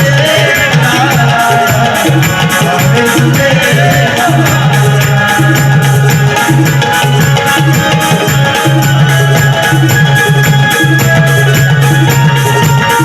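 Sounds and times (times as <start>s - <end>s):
hand drum beat: 0.0s - 13.0s.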